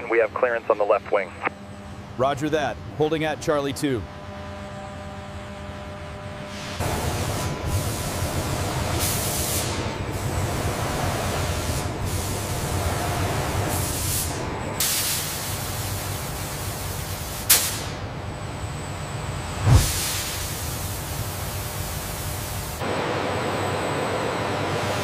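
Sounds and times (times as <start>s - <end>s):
low factory rumble: 0.0s - 25.0s.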